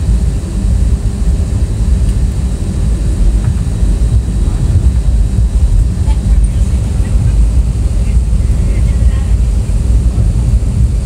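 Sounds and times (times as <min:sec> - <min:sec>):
airliner cabin rumble: 0:00.0 - 0:11.0
faint steady hum: 0:00.0 - 0:11.0.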